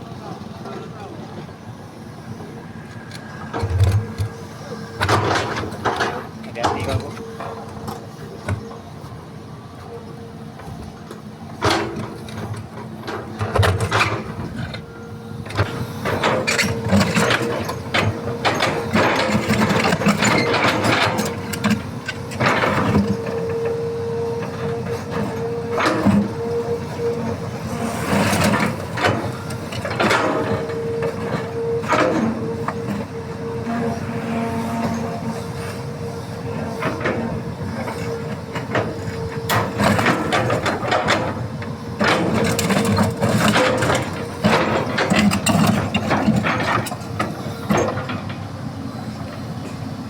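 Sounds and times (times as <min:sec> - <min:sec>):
excavator engine whine: 0:00.0 - 0:50.0.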